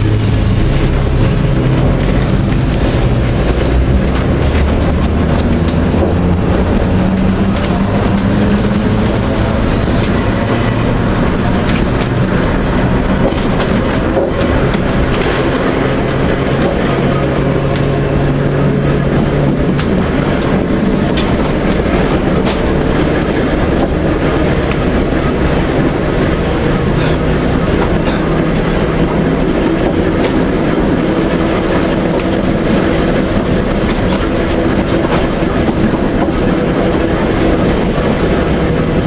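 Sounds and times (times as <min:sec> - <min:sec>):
wheels rumbling on rails: 0:00.0 - 0:39.0.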